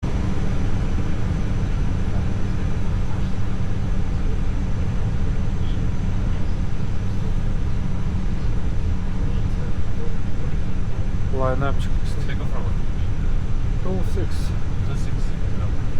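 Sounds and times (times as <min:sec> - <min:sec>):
aircraft engines idling: 0:00.0 - 0:15.9.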